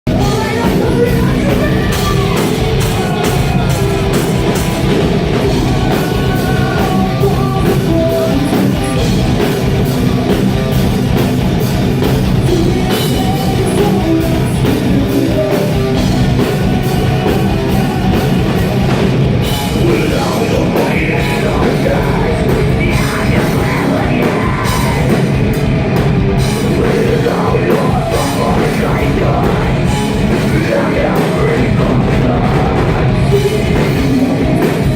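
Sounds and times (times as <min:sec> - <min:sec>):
distorted guitars: 0:00.0 - 0:34.9
fast drumming: 0:00.0 - 0:34.9.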